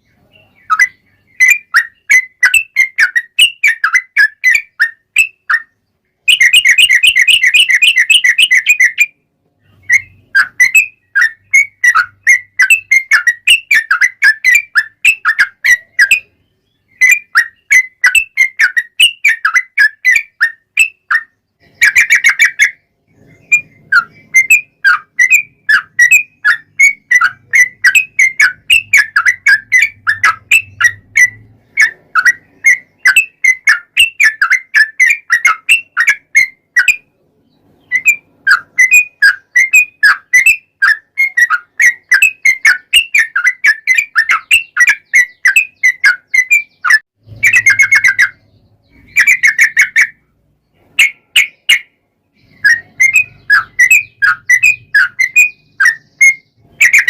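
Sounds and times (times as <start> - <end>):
bird singing rapid bubbly notes: 0.0 - 37.1, 37.8 - 57.0.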